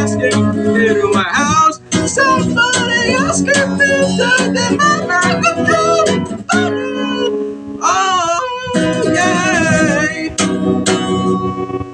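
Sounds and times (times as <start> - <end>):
wordless singing: 0.0 - 11.3
guitar: 0.0 - 11.9.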